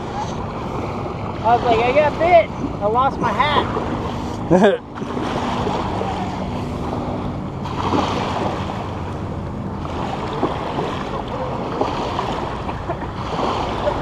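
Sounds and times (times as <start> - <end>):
waves lapping at shoreline: 0.0 - 14.0.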